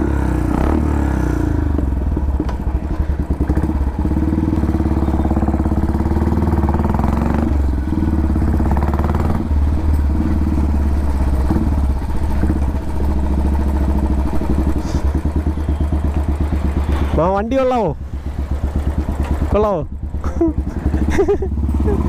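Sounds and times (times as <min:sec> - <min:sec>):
motorcycle engine thumping: 0:01.6 - 0:22.0.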